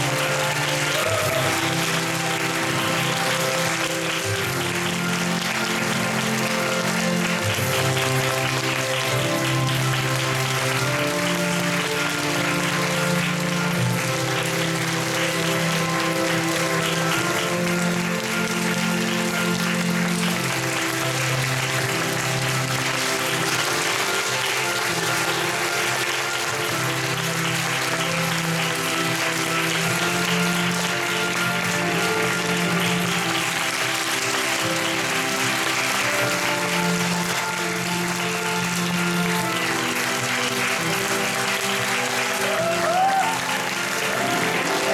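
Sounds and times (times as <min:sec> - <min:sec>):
audience applauding: 0:00.0 - 0:44.9
slow music with low notes: 0:00.0 - 0:44.9.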